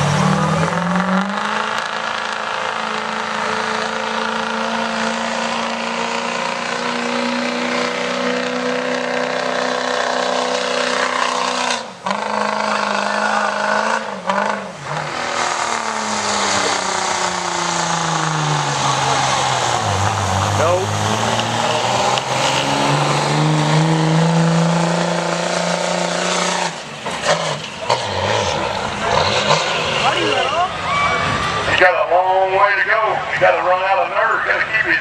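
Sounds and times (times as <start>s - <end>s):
pulling vehicle engine at high revs: 0.0s - 35.0s.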